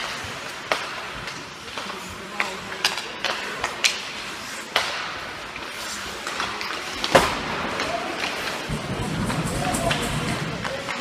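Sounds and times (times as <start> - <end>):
skates scraping on ice: 0.0 - 11.0
stick hitting puck: 0.0 - 11.0.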